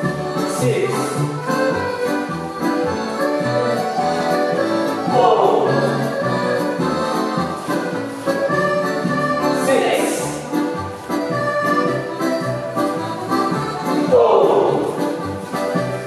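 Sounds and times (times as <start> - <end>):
accordion dance music: 0.0 - 16.0.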